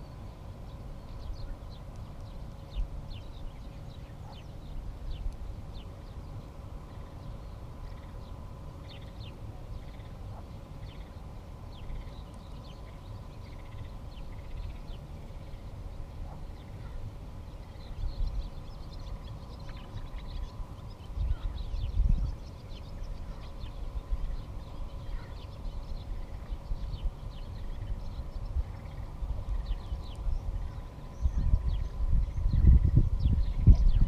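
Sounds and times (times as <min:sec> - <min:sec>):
birds chirping: 0:00.0 - 0:34.0
faint steady hum: 0:00.0 - 0:34.0
steady low rumble: 0:00.0 - 0:34.0.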